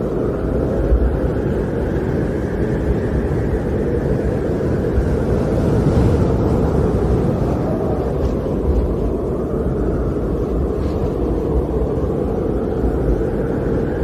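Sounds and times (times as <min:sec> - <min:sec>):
snowstorm wind rushing: 0:00.0 - 0:14.0.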